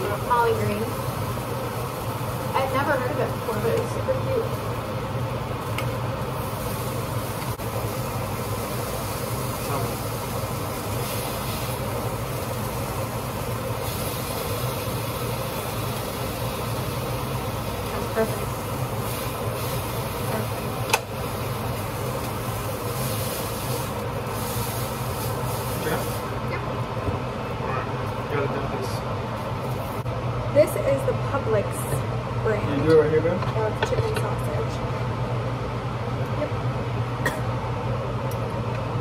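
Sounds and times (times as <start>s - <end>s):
range hood fan humming: 0.0s - 39.0s.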